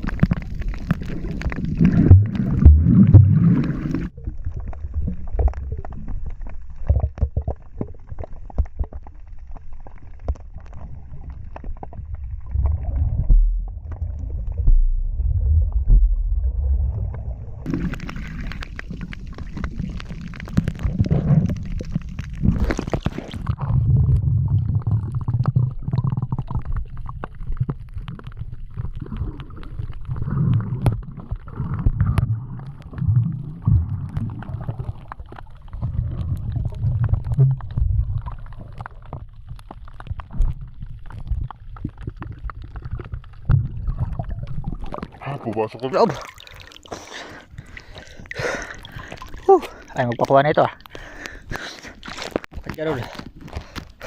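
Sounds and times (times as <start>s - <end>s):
hissing and splashing: 0.0s - 13.2s, 17.6s - 23.7s, 26.5s - 54.0s
underwater rumbling and gurgling: 0.0s - 54.0s.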